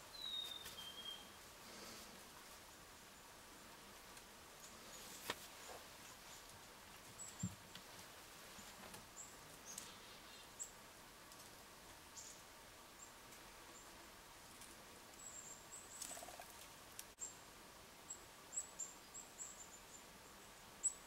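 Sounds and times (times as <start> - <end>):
small birds chirping: 0.0 - 2.2, 4.1 - 11.4, 12.1 - 21.0.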